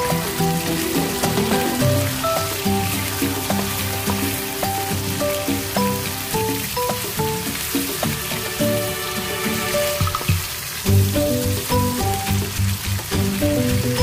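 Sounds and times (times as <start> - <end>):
background music stepped notes: 0.0 - 14.0
shrimp sizzling in hot oil: 0.0 - 14.0.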